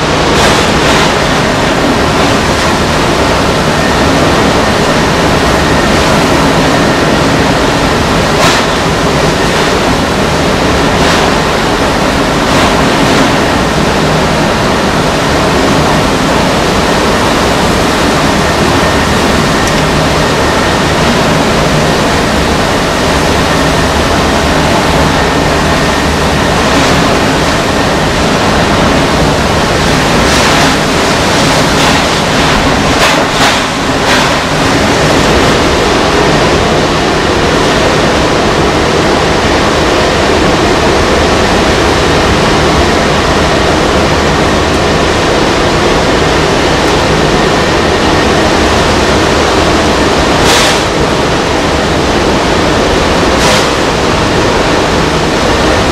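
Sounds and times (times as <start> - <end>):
driving rain: 0.0 - 55.9
heavy surf breaking: 0.0 - 55.9
hurricane wind: 0.0 - 55.9.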